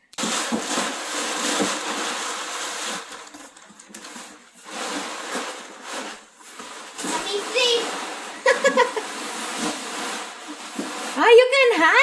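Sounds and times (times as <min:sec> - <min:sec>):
rustling scraping noise: 0:00.2 - 0:12.0.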